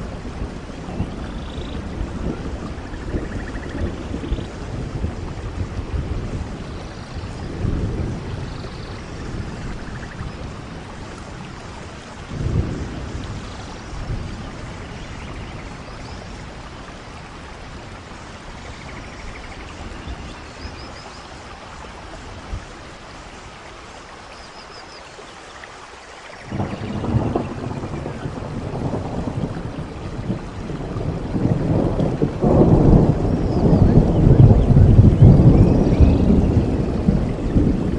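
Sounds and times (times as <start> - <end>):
thunder rumbling: 0.0 - 23.2, 26.4 - 37.9
heavy rain hissing: 0.0 - 37.9.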